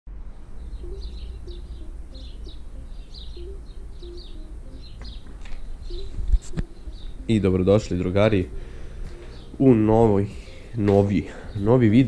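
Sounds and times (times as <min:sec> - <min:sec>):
birds chirping: 0:00.5 - 0:12.0.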